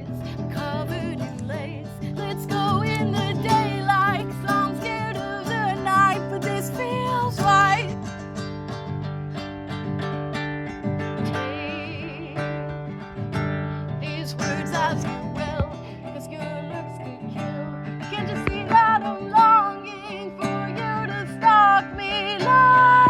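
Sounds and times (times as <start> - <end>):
acoustic guitar chords: 0.0 - 23.0.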